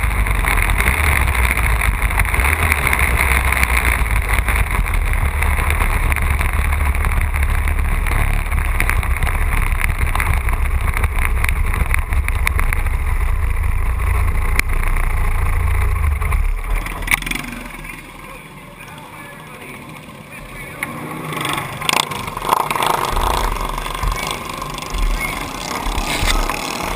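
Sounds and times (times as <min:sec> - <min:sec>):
lawn tractor engine under load: 0:00.0 - 0:26.9.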